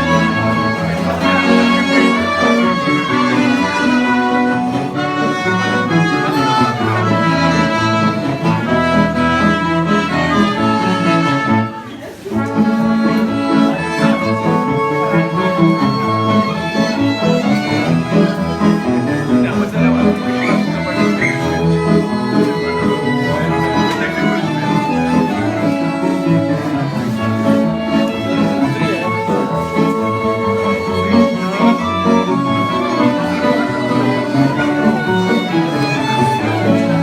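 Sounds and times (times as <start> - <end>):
accordion: 0.0 - 37.0
fiddle: 0.0 - 37.0
plucked string accompaniment: 0.0 - 37.0.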